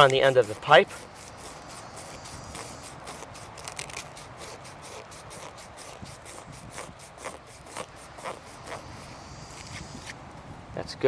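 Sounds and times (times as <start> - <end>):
sandpaper scraping plastic pipe: 0.0 - 10.2.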